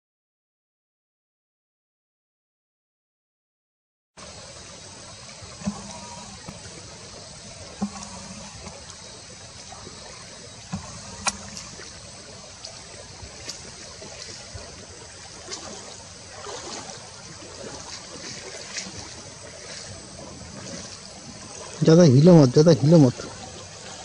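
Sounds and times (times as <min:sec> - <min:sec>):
stream trickling: 0:04.2 - 0:24.0.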